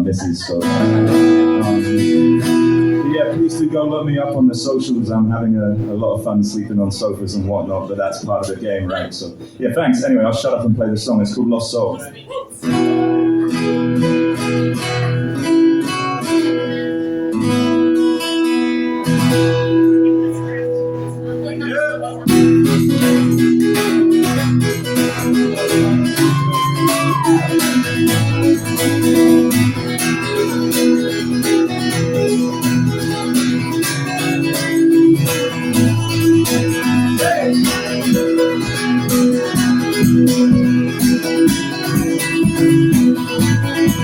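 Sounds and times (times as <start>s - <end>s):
guitar strumming chords: 0.0s - 9.6s, 12.6s - 44.0s.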